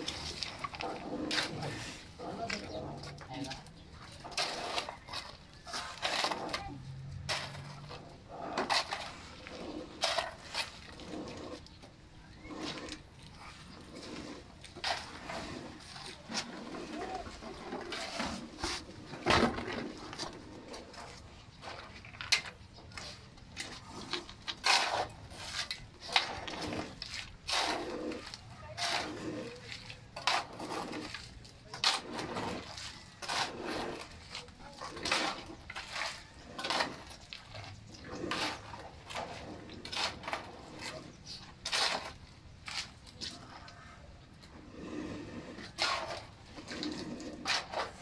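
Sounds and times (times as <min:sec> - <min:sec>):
shovel scraping wet concrete: 0:00.0 - 0:48.0.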